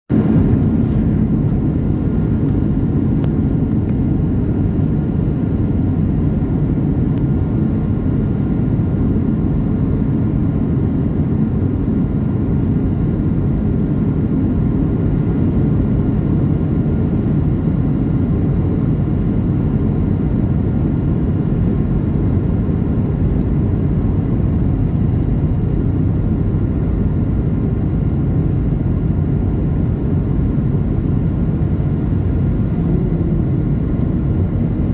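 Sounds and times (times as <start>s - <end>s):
airplane engine and airflow rumble: 0.1s - 34.9s
faint steady whine: 0.1s - 34.9s.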